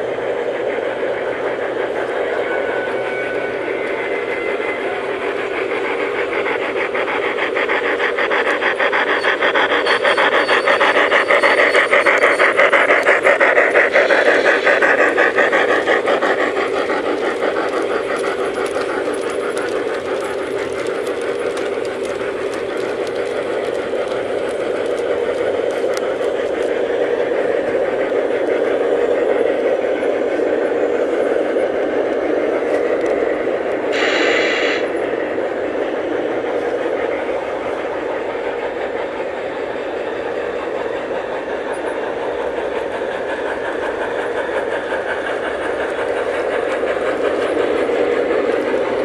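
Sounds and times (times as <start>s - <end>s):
model train motors whirring: 0.0s - 49.0s
wheels clicking on rails: 0.0s - 49.0s.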